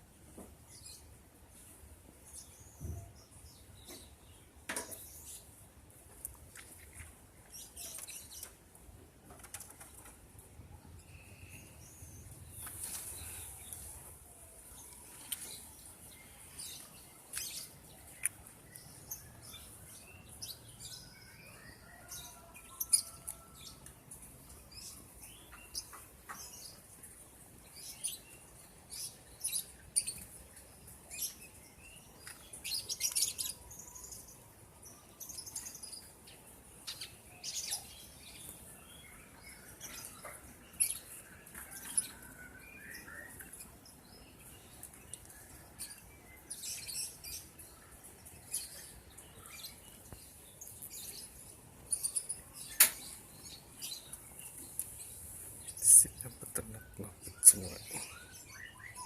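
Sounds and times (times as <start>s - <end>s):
lovebirds chirping: 9.4s - 59.0s.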